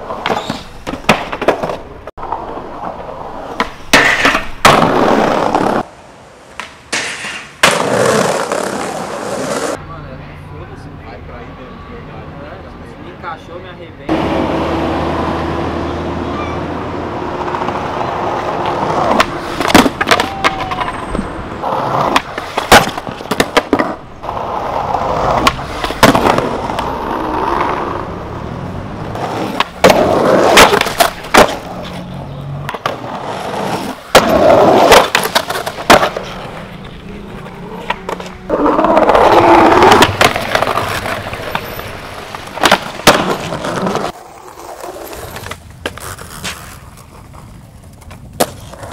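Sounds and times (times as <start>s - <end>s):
skateboard clacking on ground: 0.0s - 5.9s, 6.5s - 9.8s, 17.3s - 28.0s, 29.1s - 48.9s
skateboard wheels rolling on concrete: 0.0s - 11.5s, 12.2s - 48.9s.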